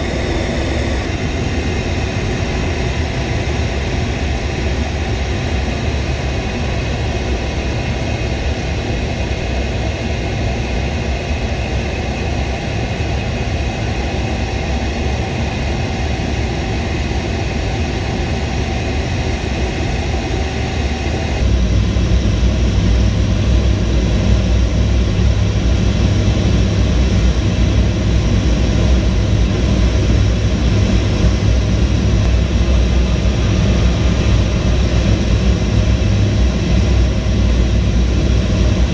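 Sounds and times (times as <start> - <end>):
jet aircraft engine drone: 0.0 - 38.9.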